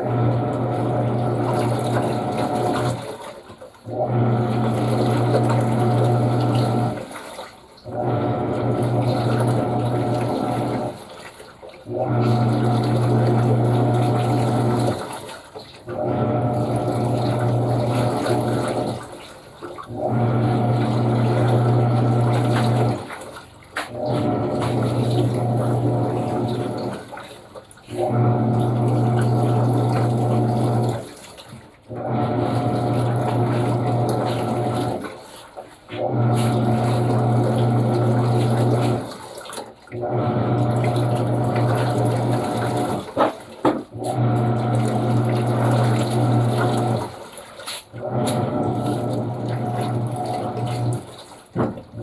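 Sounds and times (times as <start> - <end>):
washing machine motor humming: 0.0 - 52.0
water churning: 0.0 - 52.0.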